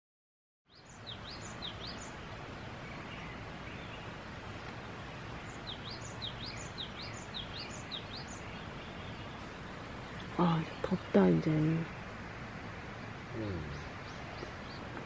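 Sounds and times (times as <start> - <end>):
bird chirping: 0.7 - 15.0
outdoor background hiss: 0.7 - 15.0.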